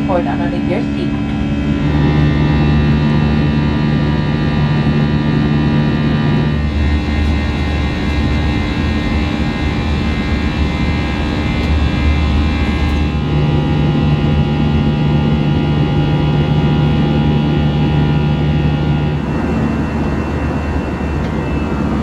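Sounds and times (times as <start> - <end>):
jet engines roaring in cabin: 0.0 - 22.0
low hum: 0.0 - 22.0.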